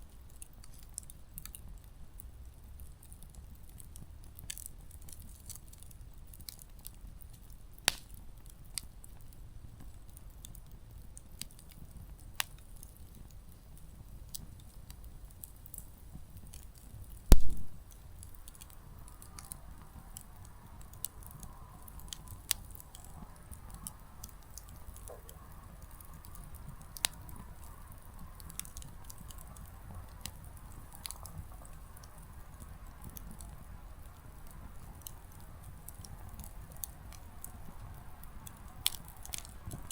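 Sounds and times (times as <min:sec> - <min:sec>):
campfire crackling: 0:00.0 - 0:39.9
firewood popping: 0:03.0 - 0:09.1, 0:09.8 - 0:39.9.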